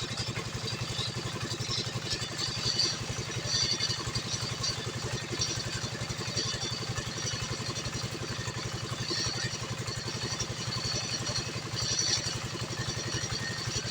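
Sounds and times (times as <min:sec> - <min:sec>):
small engine idling: 0:00.0 - 0:13.9.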